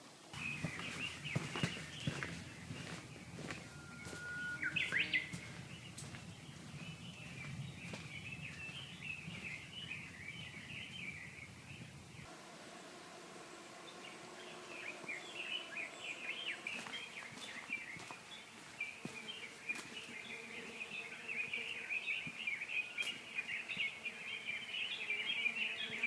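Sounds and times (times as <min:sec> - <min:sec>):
birds chirping and whistling: 0:00.4 - 0:12.3, 0:13.3 - 0:26.0.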